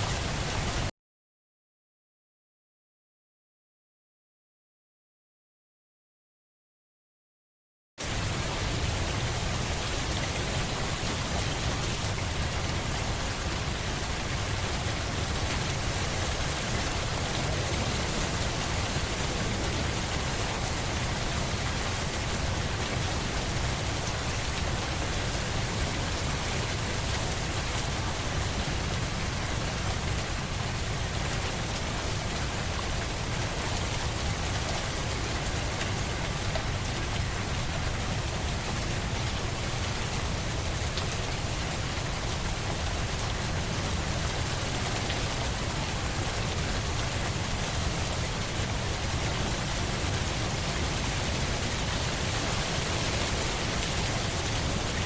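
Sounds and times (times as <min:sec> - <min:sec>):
steady rain: 0:00.0 - 0:00.9, 0:08.0 - 0:55.0.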